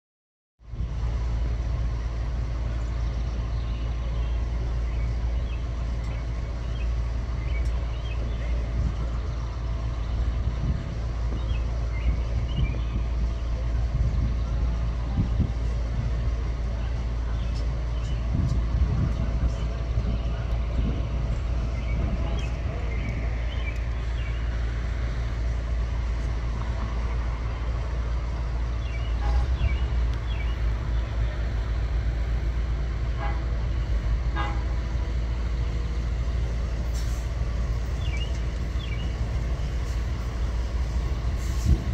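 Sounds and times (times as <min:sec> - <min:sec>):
distant diesel locomotive rumble: 0:00.6 - 0:41.9
birds chirping: 0:01.3 - 0:41.4.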